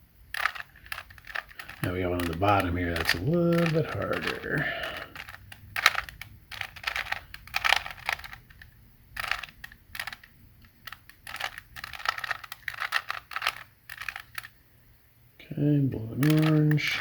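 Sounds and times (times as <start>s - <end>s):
puzzle cube being twisted: 0.3s - 14.6s, 16.1s - 17.0s.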